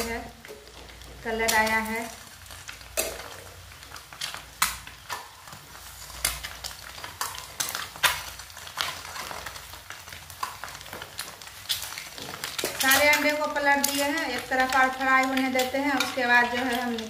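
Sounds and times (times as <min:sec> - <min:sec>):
eggs sizzling in oil: 0:00.0 - 0:17.0.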